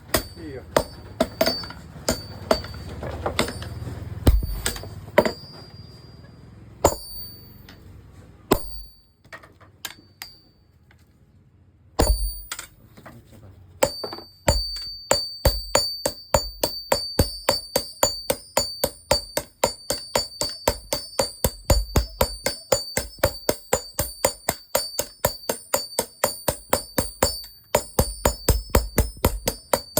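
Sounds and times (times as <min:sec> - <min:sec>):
hammer striking blade on anvil: 0:00.0 - 0:05.8, 0:06.8 - 0:07.8, 0:08.5 - 0:09.0, 0:12.0 - 0:12.8, 0:13.8 - 0:29.9.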